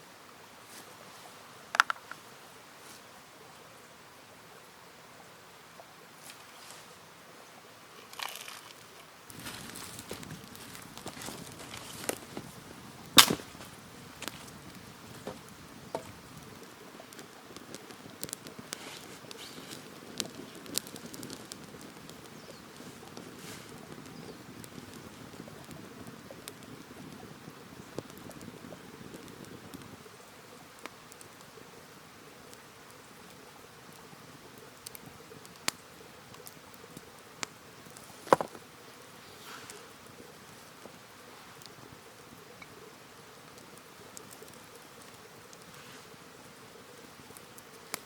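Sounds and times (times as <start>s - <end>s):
campfire crackling: 0.0s - 48.0s
faint fire hiss: 0.0s - 48.0s.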